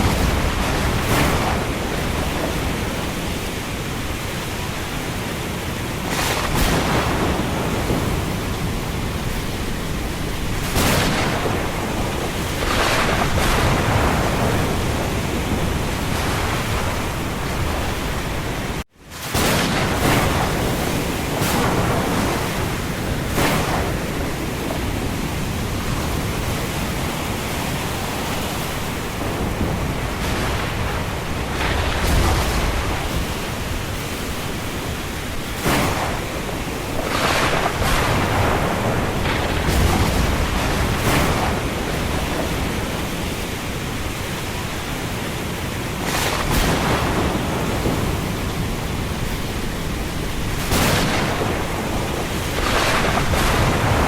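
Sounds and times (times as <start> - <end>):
thunder cracks: 0.0 - 4.9, 6.0 - 44.8, 45.9 - 54.0
rain and wind rushing: 0.0 - 54.0.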